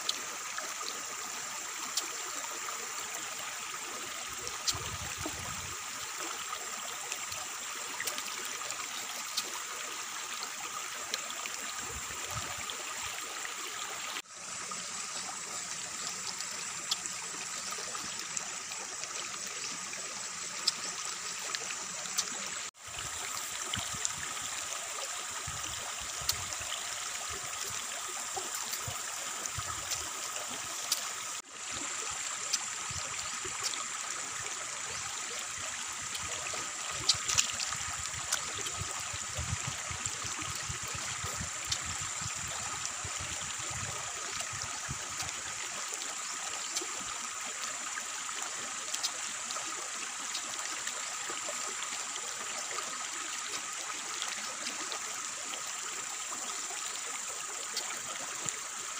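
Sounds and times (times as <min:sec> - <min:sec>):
rushing outdoor hiss: 0:00.0 - 0:58.9.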